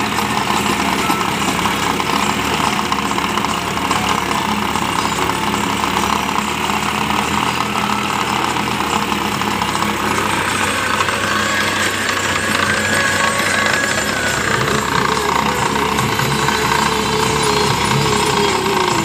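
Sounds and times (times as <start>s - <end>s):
rotavator blades churning soil: 0.0s - 19.0s
tractor diesel engine running: 0.0s - 19.0s.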